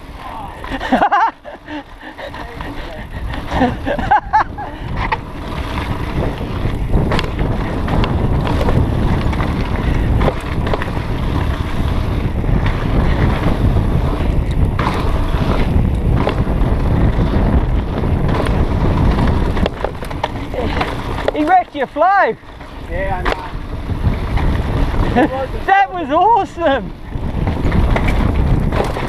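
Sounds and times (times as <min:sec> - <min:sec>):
bike rattling and clacking: 0:00.0 - 0:29.0
tyres rumbling over dirt: 0:00.0 - 0:29.0
wind buffeting microphone: 0:00.0 - 0:29.0.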